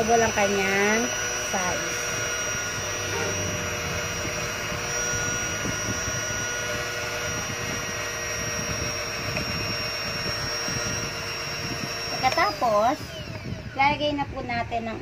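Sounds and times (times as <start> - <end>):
electric hand mixer whining: 0.0 - 14.9.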